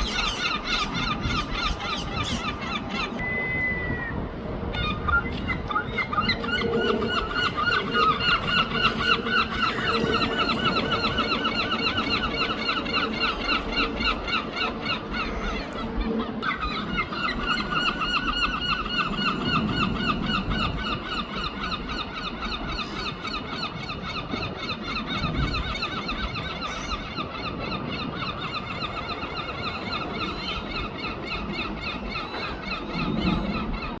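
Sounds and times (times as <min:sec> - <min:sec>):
seagull squealing calls: 0:00.0 - 0:34.0.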